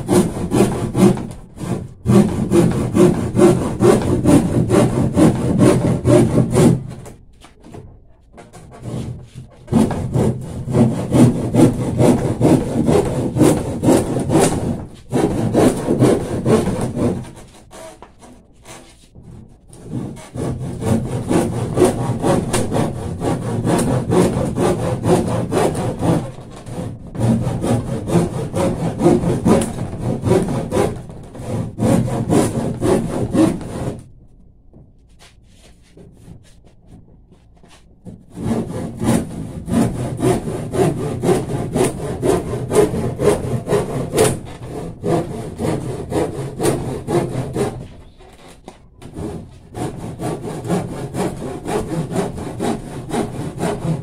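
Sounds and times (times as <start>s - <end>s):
hand saw cutting plywood: 0.0s - 34.2s, 35.2s - 54.0s.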